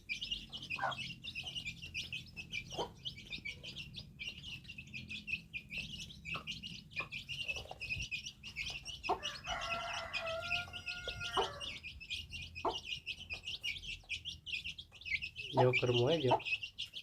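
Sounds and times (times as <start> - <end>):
birds chirping rapidly: 0.0 - 17.0.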